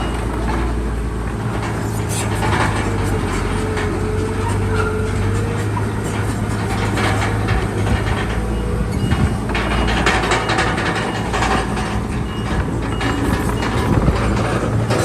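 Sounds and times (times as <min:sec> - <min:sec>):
bulldozer diesel engine running: 0:00.0 - 0:15.0
steel tracks clanking: 0:00.0 - 0:15.0.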